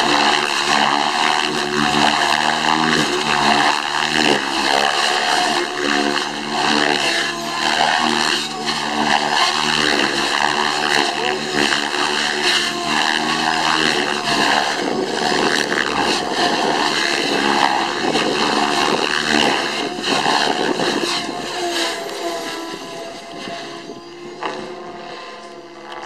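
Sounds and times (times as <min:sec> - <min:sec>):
model helicopter rotor whine: 0:00.0 - 0:26.0.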